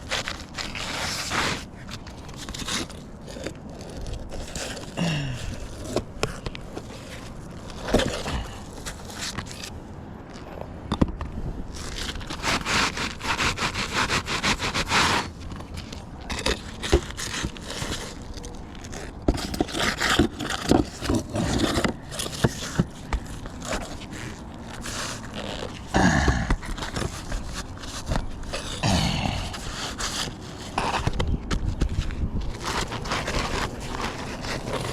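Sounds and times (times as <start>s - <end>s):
scraping on roof shingles: 0.0s - 9.7s, 11.8s - 34.9s.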